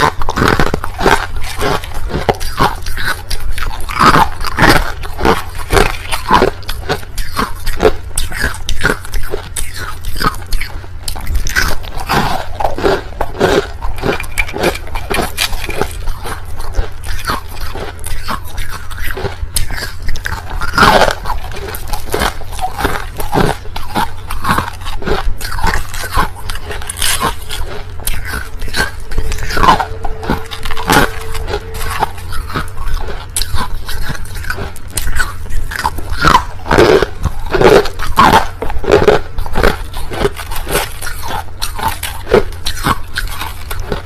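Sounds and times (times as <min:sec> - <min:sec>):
chewing crushed ice: 0:00.0 - 0:44.0.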